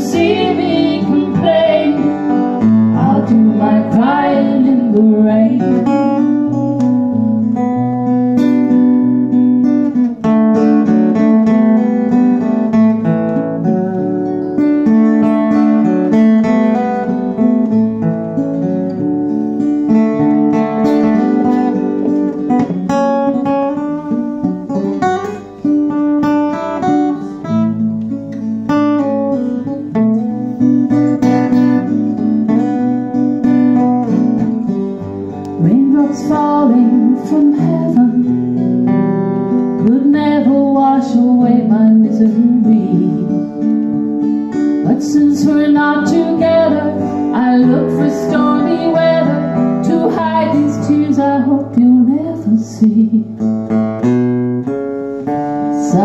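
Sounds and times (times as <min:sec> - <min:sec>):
acoustic guitars playing: 0:00.0 - 0:56.0.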